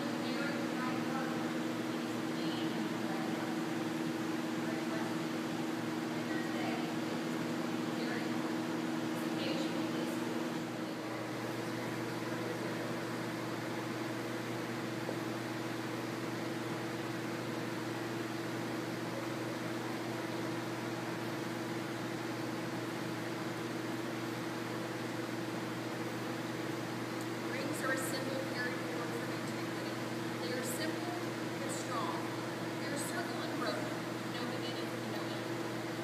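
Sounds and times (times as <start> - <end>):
steady mechanical hum: 0.0 - 36.0.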